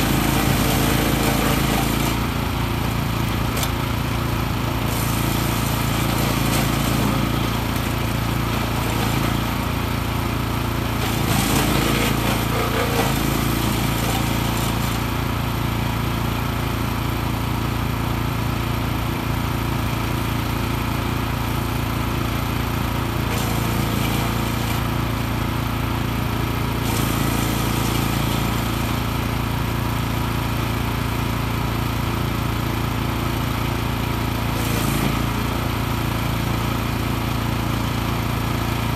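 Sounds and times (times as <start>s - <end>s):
wood chipper engine running: 0.0s - 38.9s.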